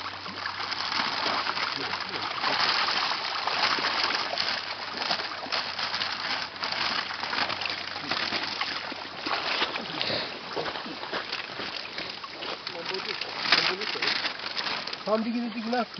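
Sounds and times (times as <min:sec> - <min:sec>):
water splashing and sloshing: 0:00.0 - 0:15.9.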